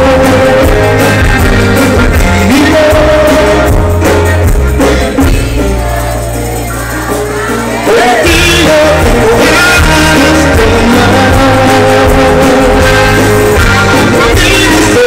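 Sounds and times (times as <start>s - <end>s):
accordion: 0.0s - 15.0s
live band music: 0.0s - 15.0s
person singing: 0.0s - 15.0s.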